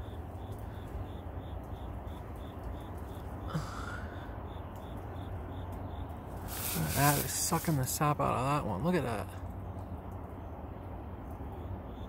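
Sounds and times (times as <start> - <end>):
cricket chirping: 0.0 - 9.0, 10.4 - 12.0.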